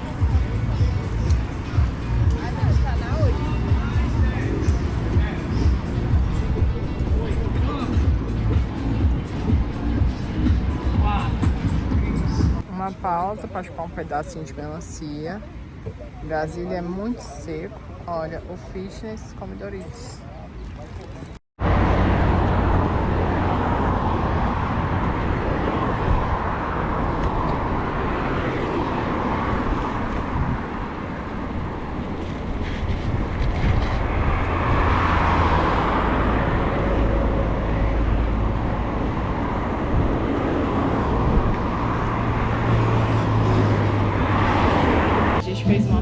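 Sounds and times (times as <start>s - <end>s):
traffic: 0.0s - 46.0s
wind and road noise: 0.0s - 46.0s.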